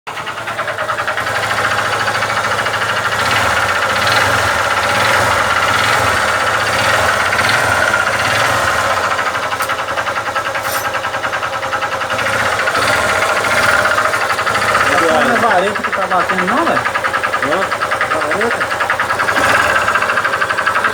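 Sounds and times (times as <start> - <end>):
metallic knocking inside engine: 0.1 - 20.9
motorcycle engine running: 0.1 - 20.9.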